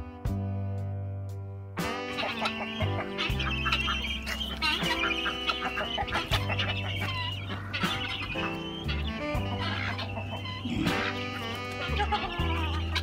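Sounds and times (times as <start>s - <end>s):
guitar background music: 0.0s - 13.0s
chickens and guinea fowl clucking: 2.1s - 13.0s.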